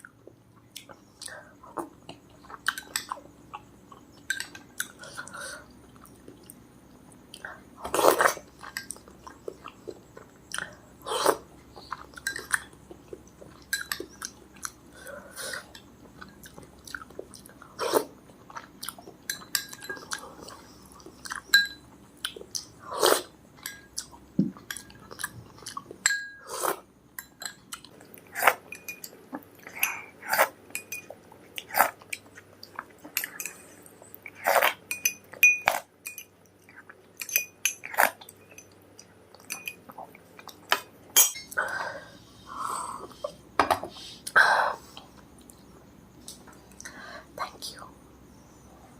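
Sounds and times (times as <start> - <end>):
chewing and crunching food: 0.0 - 26.0, 26.6 - 40.8.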